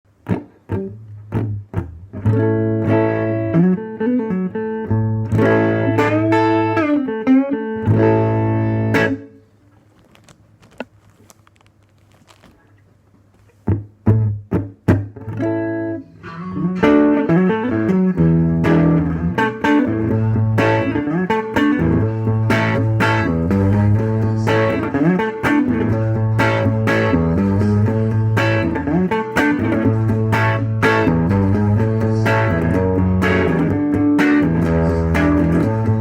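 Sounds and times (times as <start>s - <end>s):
clean electric guitar riff: 0.2s - 9.4s, 13.7s - 36.0s.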